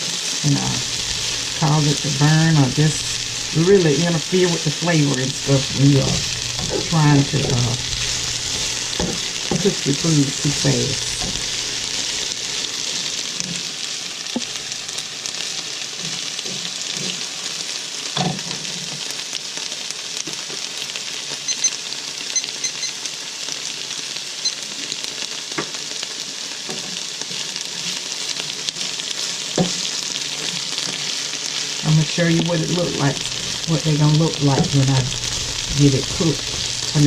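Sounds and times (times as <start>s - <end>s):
food sizzling in a frying pan: 0.0s - 37.0s.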